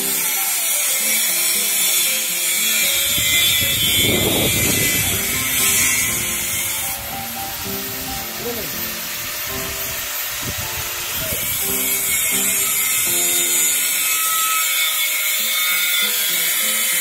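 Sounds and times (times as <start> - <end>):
arc welder hissing crackle: 0.0 - 17.0
soft background music: 0.0 - 17.0.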